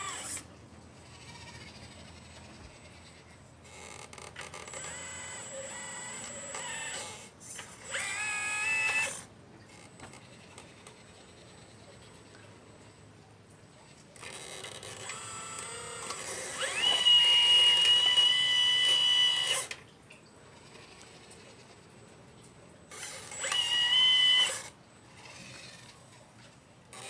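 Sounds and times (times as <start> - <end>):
small electric motors whining: 0.0 - 12.4, 14.2 - 19.8, 22.8 - 27.0.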